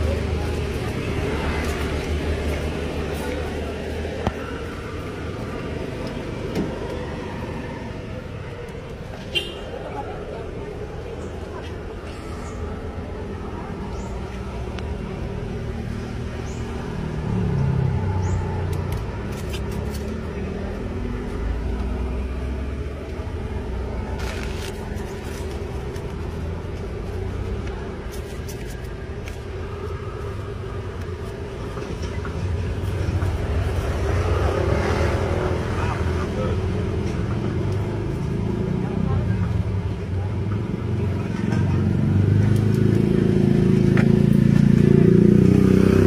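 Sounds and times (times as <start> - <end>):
road traffic rumbling: 0.0 - 46.0.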